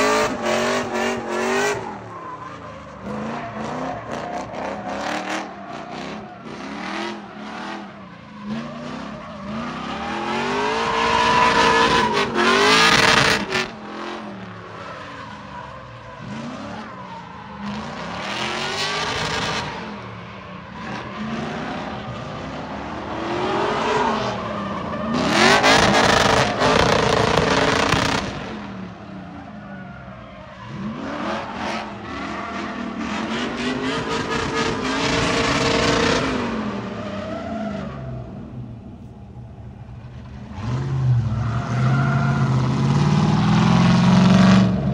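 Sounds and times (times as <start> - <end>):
car engine revving: 0.0 - 20.2, 20.8 - 29.0, 30.6 - 44.9.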